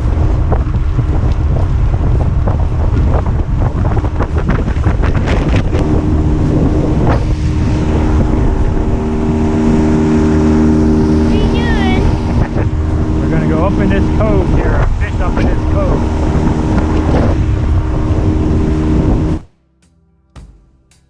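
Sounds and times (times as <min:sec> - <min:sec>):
outboard motor hum: 0:00.0 - 0:19.5
wind buffeting microphone: 0:00.0 - 0:19.5.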